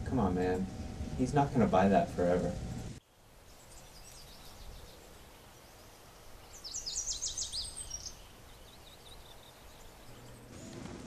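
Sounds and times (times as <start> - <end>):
birds chirping and trilling: 0.0 - 11.0
faint outdoor background noise: 0.0 - 11.0.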